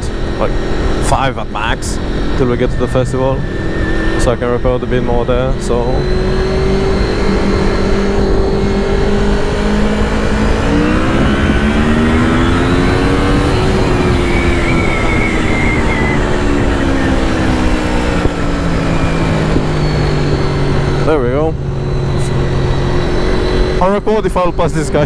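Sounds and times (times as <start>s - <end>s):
wind rush: 0.0s - 23.9s
motorcycle engine revving: 0.0s - 25.0s.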